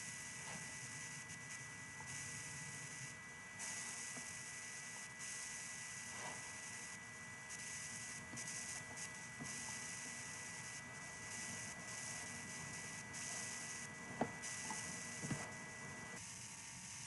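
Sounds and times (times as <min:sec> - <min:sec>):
microphone hiss: 0:00.0 - 0:16.2
electrical hum: 0:00.0 - 0:17.0
steady high whine: 0:00.0 - 0:17.0.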